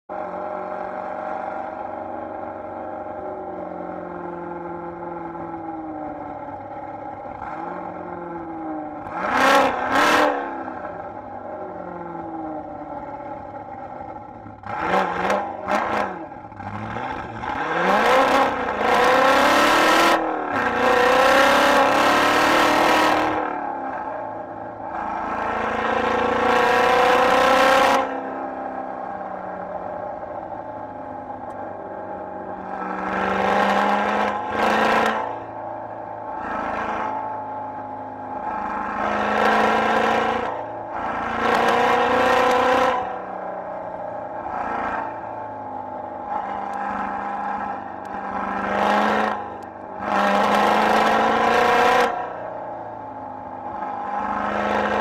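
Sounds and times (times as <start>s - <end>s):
car engine accelerating hard: 0.1s - 55.0s.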